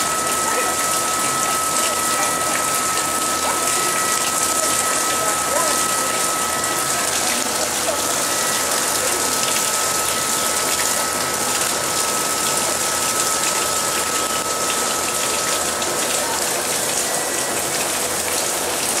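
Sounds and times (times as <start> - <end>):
faint steady whine: 0.0 - 19.0
water pouring into a pool: 0.0 - 19.0.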